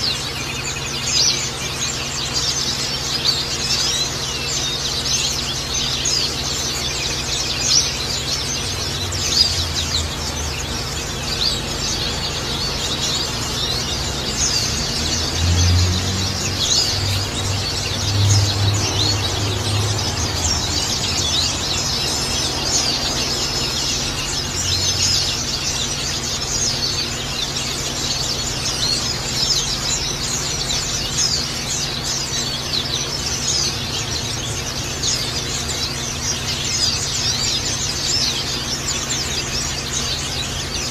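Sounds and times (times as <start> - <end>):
small birds twittering: 0.0 - 40.9.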